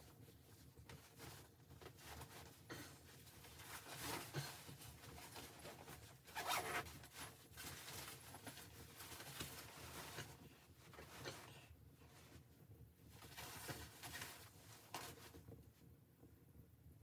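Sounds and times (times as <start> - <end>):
rustling and scraping: 0.1 - 15.9.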